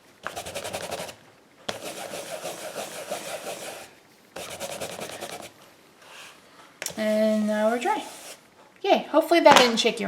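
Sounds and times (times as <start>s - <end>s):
rubber stamp scrubbing on pad: 0.2s - 8.4s.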